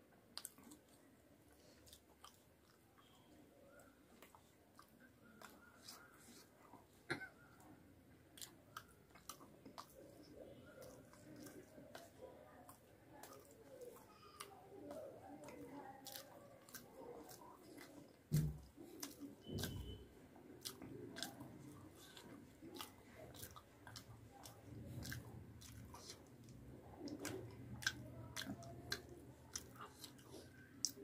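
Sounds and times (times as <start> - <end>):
chewing with wet mouth clicks: 0.3 - 31.0.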